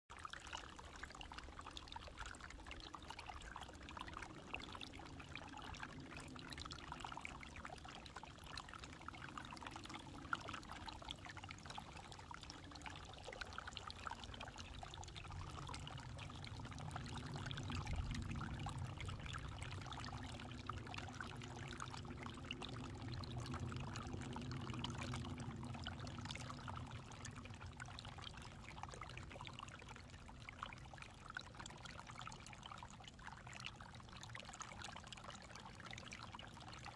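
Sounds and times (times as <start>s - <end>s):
water trickling under ice: 0.1s - 36.9s
low water rush: 3.7s - 34.2s.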